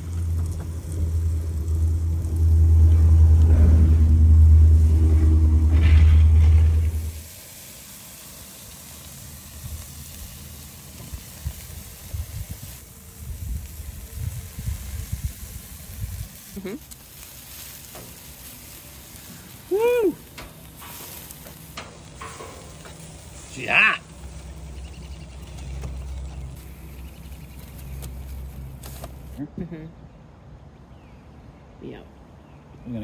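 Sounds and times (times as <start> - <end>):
chicken sizzling on a grill: 0.0 - 29.4.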